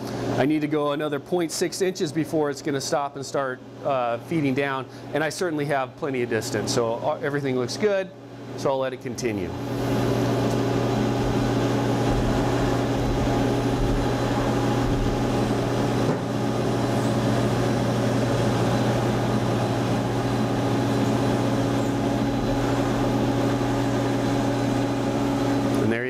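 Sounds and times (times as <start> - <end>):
machining center mechanical hum: 0.0 - 26.0.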